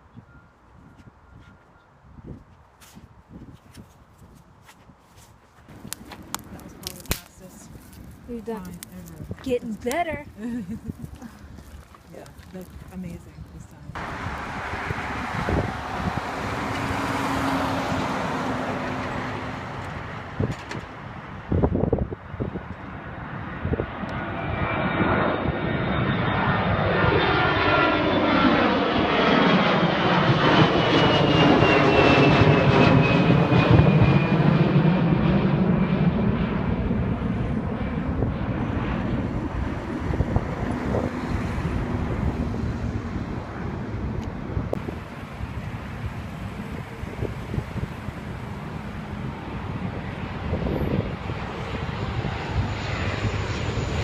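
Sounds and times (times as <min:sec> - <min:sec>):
airliner passing overhead: 0:05.6 - 0:54.0
high engine whine: 0:05.7 - 0:54.0.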